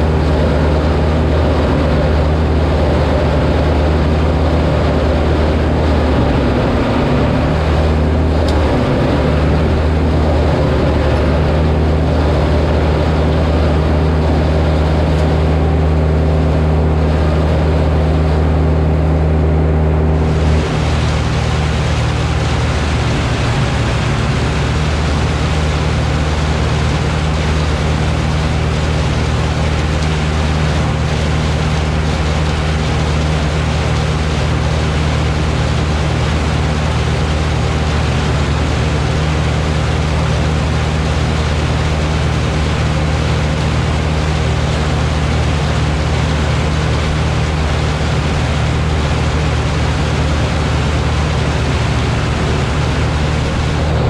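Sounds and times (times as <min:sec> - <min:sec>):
diesel machinery engine running: 0:00.0 - 0:54.0.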